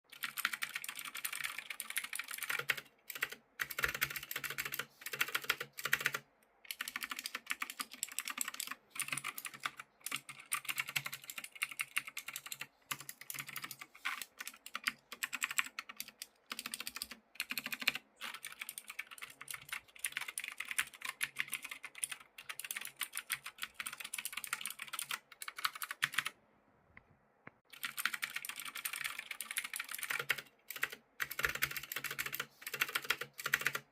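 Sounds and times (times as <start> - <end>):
clicky keyboard typing: 0.1 - 26.4, 27.7 - 33.9.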